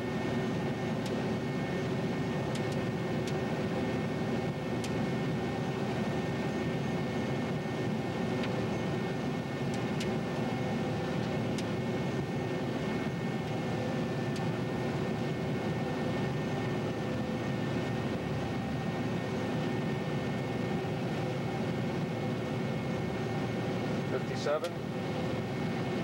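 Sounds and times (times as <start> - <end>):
combine engine and threshing drone: 0.0 - 26.0
steady whining tones: 0.2 - 26.0.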